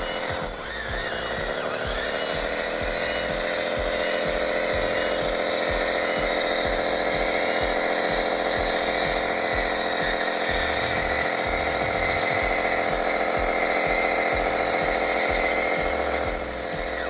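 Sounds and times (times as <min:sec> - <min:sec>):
toy bulldozer motor whining: 0:00.0 - 0:17.0.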